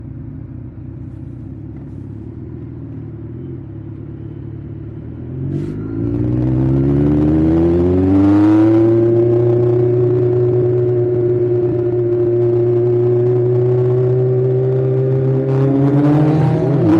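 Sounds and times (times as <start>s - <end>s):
motorcycle engine idling and accelerating: 0.0s - 16.9s.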